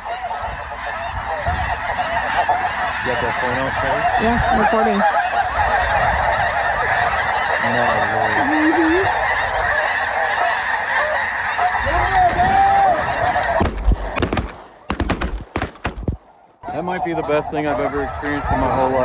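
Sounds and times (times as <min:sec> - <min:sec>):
geese flock honking: 0:00.0 - 0:19.0.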